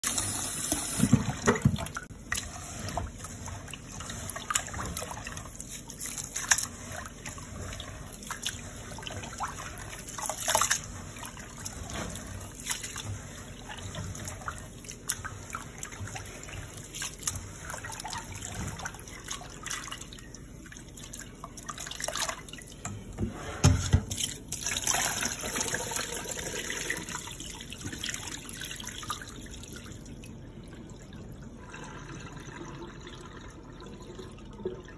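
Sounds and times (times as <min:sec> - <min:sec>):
water sloshing as rice is washed: 0:00.0 - 0:34.9.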